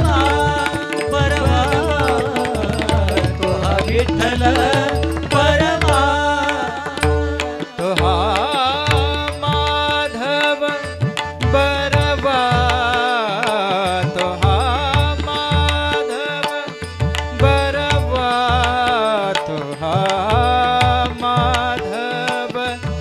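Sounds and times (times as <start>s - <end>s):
hand drums playing rhythm: 0.0s - 23.0s
harmonium held tones: 0.0s - 23.0s
man singing: 0.0s - 23.0s.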